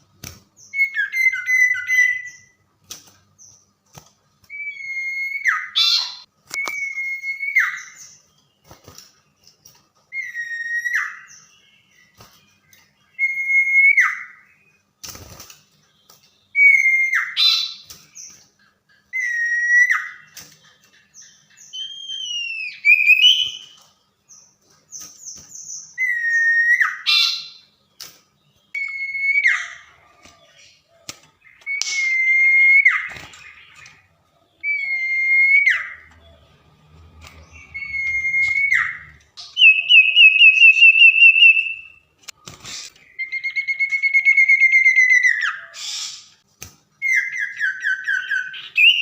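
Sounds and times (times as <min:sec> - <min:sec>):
bird whistling song: 0:00.6 - 0:02.6, 0:04.5 - 0:08.8, 0:10.1 - 0:14.8, 0:15.8 - 0:18.4, 0:19.1 - 0:27.8, 0:28.4 - 0:36.6, 0:37.3 - 0:42.0, 0:43.0 - 0:46.4, 0:47.0 - 0:49.0.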